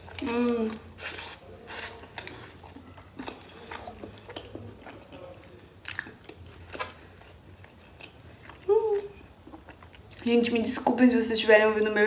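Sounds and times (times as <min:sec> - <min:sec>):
person chewing with wet mouth smacks: 0:00.0 - 0:10.3.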